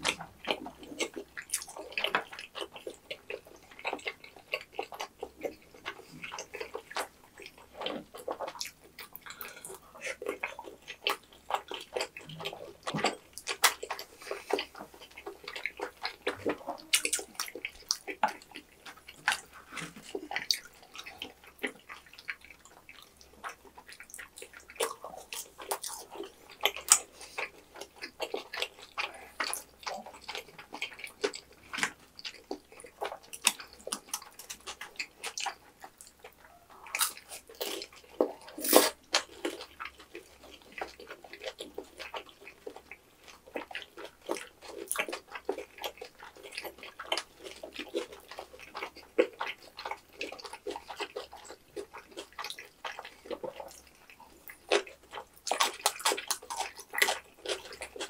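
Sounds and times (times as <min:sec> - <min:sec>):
wet mouth clicks and smacks: 0:00.0 - 0:36.4, 0:37.0 - 0:58.0
people chewing food: 0:00.0 - 0:58.0.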